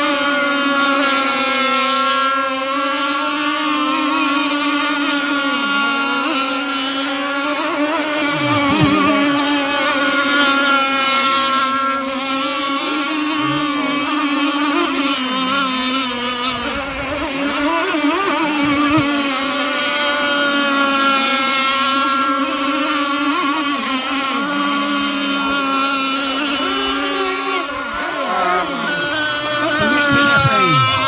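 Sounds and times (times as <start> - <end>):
model boat engines racing: 0.0 - 31.0.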